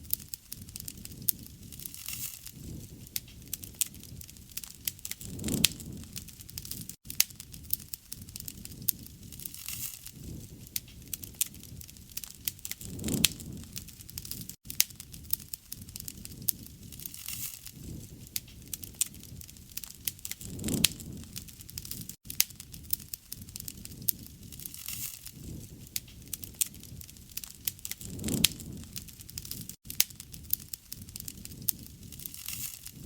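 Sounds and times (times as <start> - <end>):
wood fire crackling: 0.0 - 33.0
rush of flame: 0.1 - 33.0.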